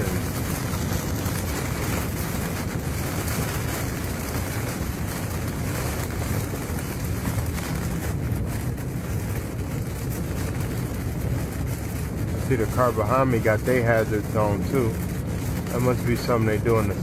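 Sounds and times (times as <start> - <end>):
heavy rain on a car: 0.0 - 17.0
tyres on wet road: 0.0 - 17.0.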